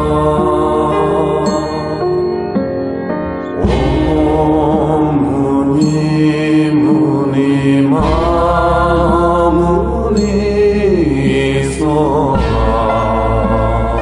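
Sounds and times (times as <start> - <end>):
chanted vocal music: 0.0 - 14.0.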